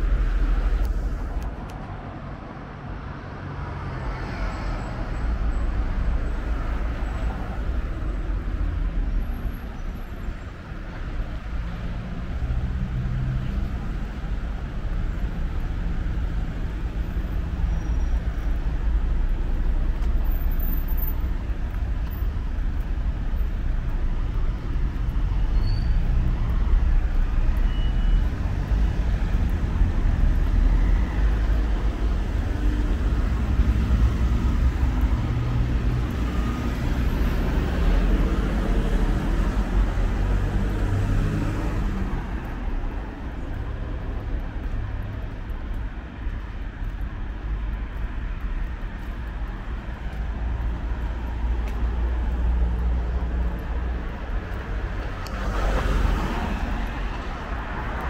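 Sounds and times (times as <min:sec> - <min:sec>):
car engines and tyres rumbling: 0:00.0 - 0:58.0.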